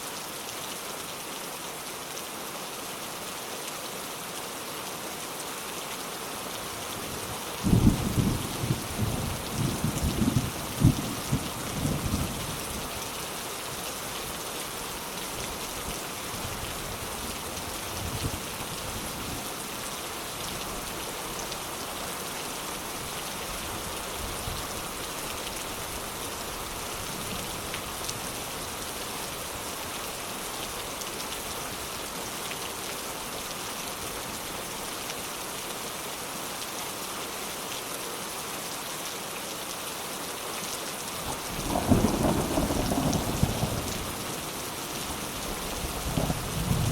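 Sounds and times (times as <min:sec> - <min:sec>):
soft rain falling: 0:00.0 - 0:46.9.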